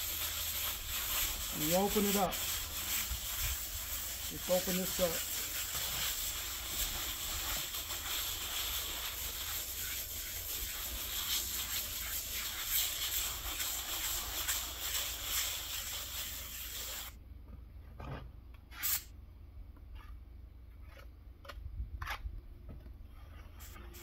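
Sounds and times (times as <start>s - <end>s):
float scraping wet plaster: 0.0s - 17.1s, 19.9s - 24.0s.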